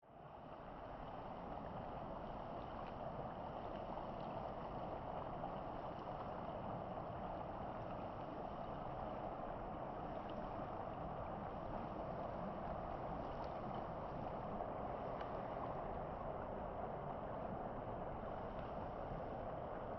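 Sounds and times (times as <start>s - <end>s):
stream flowing: 0.1s - 19.9s.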